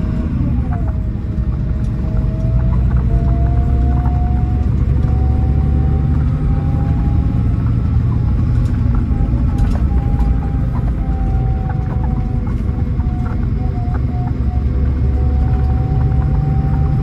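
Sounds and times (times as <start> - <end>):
diesel engine drone: 0.0 - 17.0
road rumble: 0.0 - 17.0
thin whine: 0.0 - 17.0.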